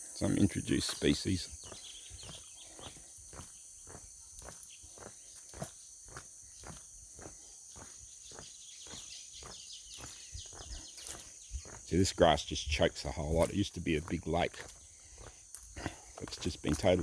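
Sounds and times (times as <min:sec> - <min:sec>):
insects chirping: 0:00.0 - 0:17.0
footsteps walking: 0:00.5 - 0:17.0.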